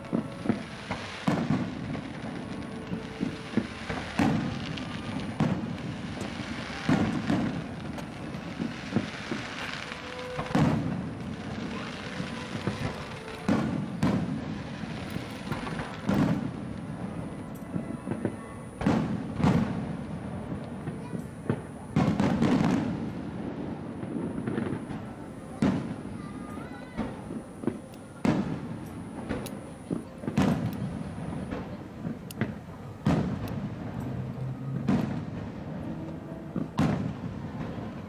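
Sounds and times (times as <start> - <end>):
firework crackle: 0.0 - 38.0
firework shells booming: 0.0 - 38.0.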